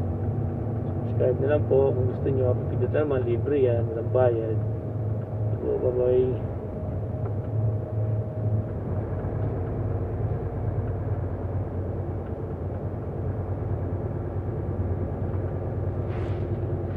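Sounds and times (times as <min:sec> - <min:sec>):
road noise: 0:00.0 - 0:16.9
truck engine droning: 0:00.0 - 0:16.9.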